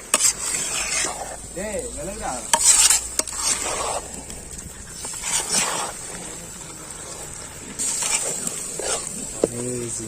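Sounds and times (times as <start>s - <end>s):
ladle scraping a pot: 0.0s - 6.4s, 7.1s - 9.5s
food sizzling in a pot: 0.0s - 10.0s.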